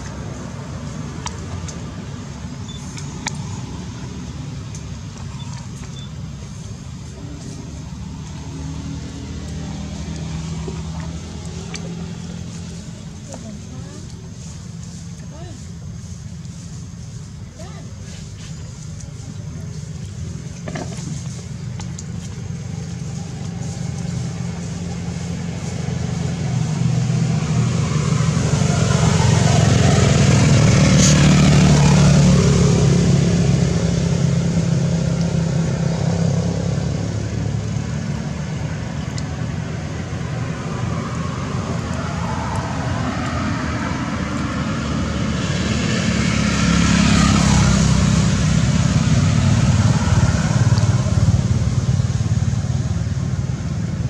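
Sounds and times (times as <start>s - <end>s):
motor vehicles passing: 0.0s - 54.0s.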